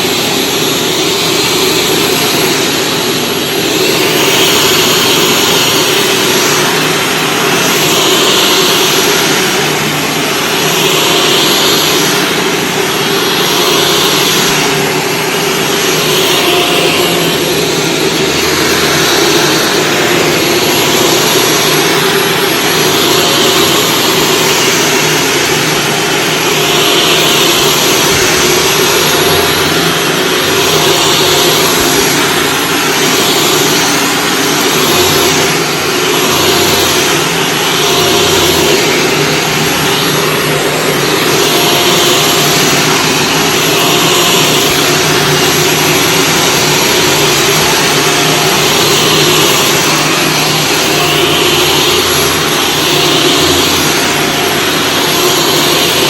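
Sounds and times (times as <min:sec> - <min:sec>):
vacuum cleaner on carpet: 0:00.0 - 0:56.0.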